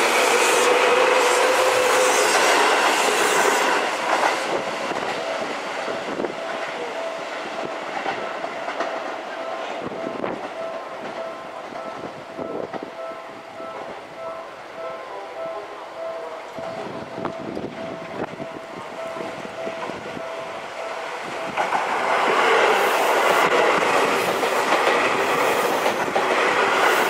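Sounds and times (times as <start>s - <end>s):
train wheel clatter: 0.0s - 14.3s, 16.5s - 27.0s.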